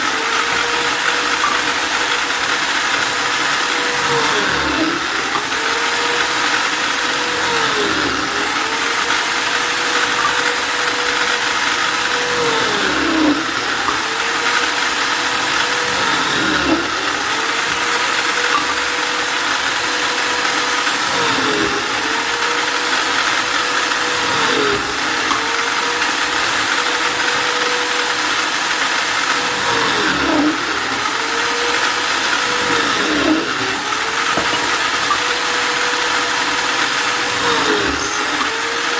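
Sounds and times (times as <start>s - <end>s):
electric drill running: 0.0s - 38.9s.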